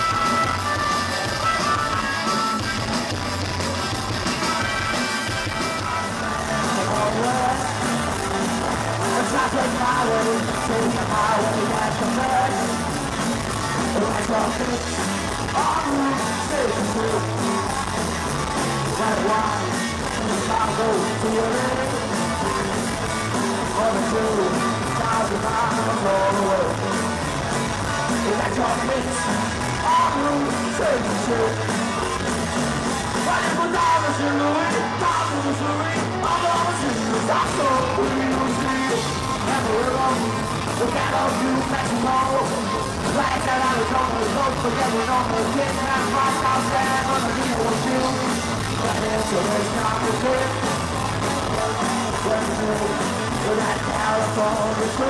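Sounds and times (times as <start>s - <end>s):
live rock band playing: 0.0s - 55.0s
male lead vocals: 0.0s - 55.0s.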